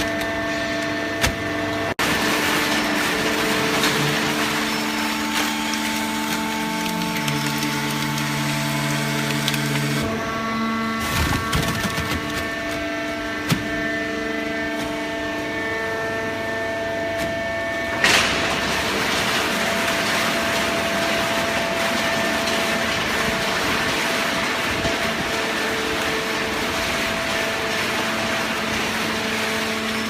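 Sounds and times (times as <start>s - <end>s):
hydraulic press motor hum: 0.0s - 30.0s.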